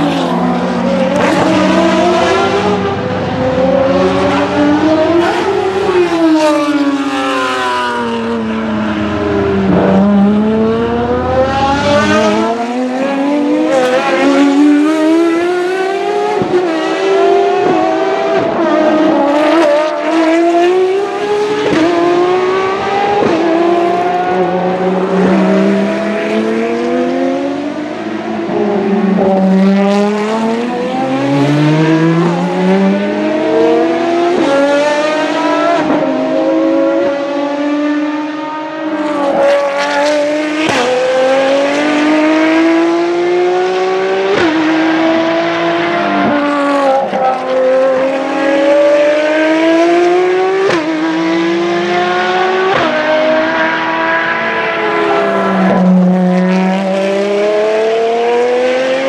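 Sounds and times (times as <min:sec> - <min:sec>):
racing car engines accelerating: 0:00.0 - 0:59.0.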